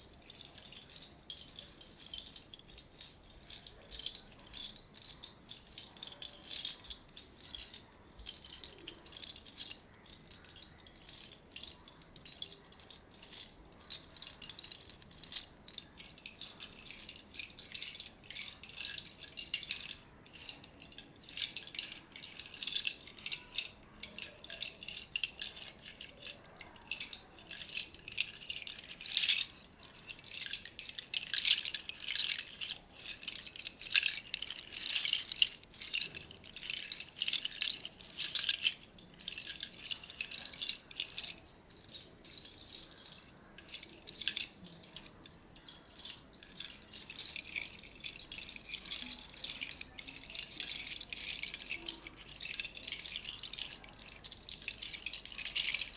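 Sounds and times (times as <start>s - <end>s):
rattle shaken: 0.0s - 55.9s.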